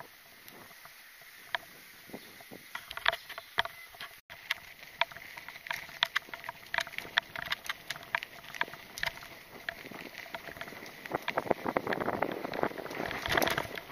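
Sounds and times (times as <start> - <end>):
mountain bike rattling over dirt: 0.6 - 13.9.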